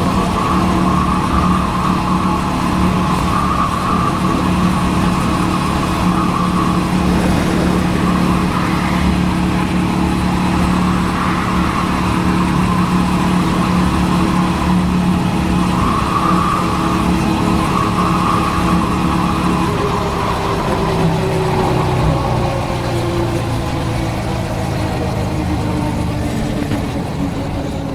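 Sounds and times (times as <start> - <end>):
motorcycle engine cruising: 0.0 - 27.9
wind and road noise: 0.0 - 27.9.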